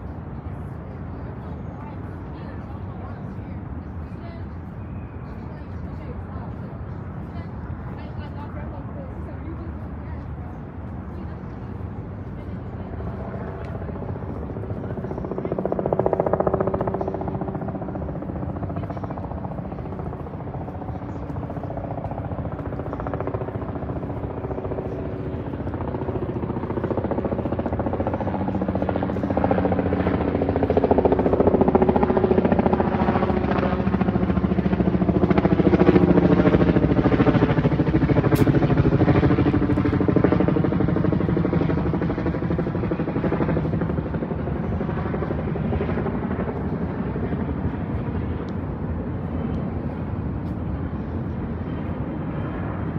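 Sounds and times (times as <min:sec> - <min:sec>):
aircraft engine droning overhead: 0:00.0 - 0:52.9.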